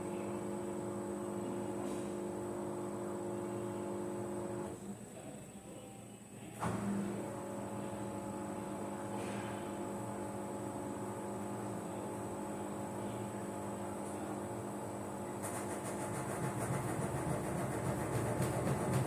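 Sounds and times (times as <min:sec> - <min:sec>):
washing machine hum: 0:00.0 - 0:05.7, 0:06.3 - 0:19.0.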